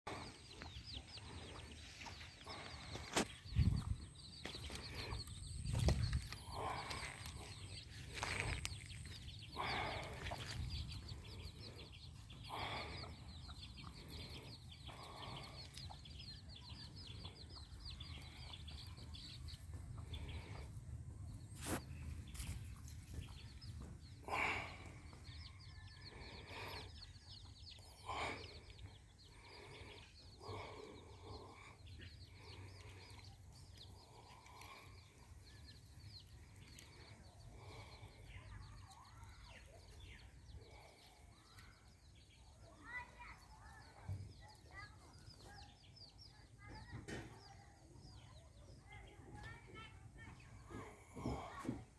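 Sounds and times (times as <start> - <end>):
chicks peeping: 0.1 - 24.2, 24.8 - 51.9.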